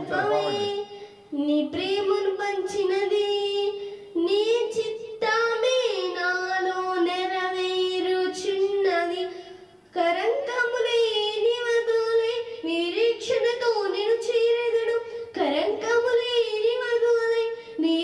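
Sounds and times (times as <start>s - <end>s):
girl singing into a microphone: 0.0s - 18.0s.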